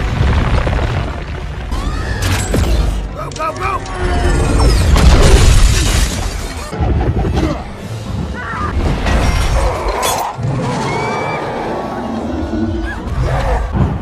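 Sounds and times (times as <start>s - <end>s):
action film music score: 0.0s - 14.0s.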